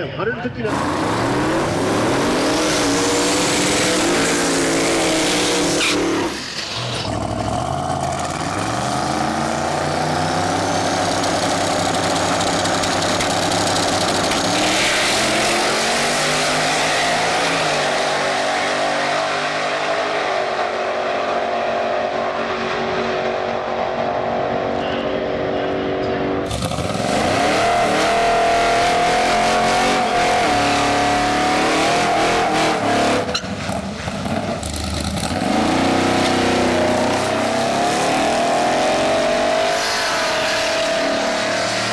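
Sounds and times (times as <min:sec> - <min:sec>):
drag racing engines at full throttle: 0:00.0 - 0:41.9.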